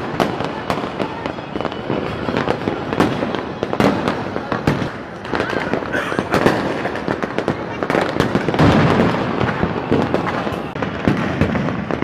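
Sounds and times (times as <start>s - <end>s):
firecrackers crackling: 0.0s - 12.0s
fireworks bangs and pops: 0.0s - 12.0s.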